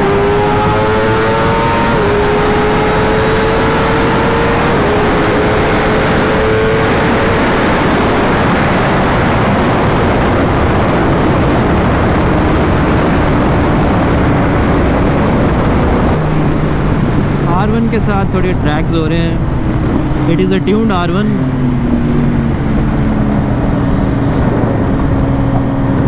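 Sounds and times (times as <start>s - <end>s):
motorcycle engine: 0.0s - 26.0s
wind rush on microphone: 0.0s - 26.0s.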